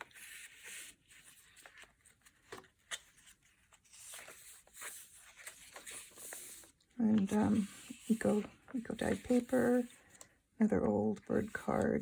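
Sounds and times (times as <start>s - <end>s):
paper pages rustling: 0.0s - 10.4s.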